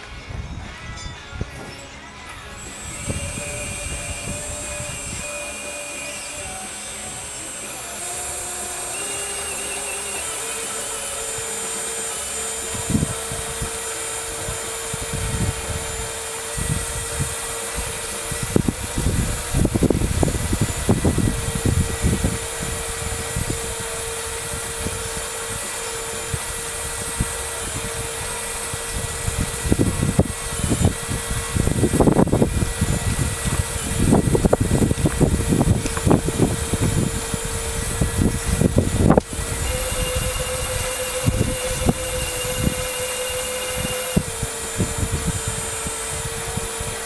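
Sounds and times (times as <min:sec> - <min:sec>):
hydraulic pump hum: 0:00.0 - 0:47.0.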